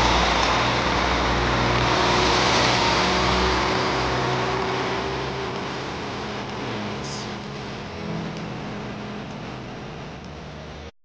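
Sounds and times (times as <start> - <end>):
diesel train engines: 0.0 - 10.9.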